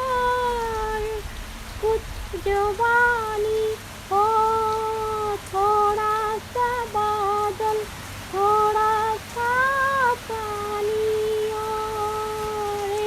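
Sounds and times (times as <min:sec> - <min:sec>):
rain hissing: 0:00.0 - 0:13.0
woman singing wordless melody: 0:00.0 - 0:13.0.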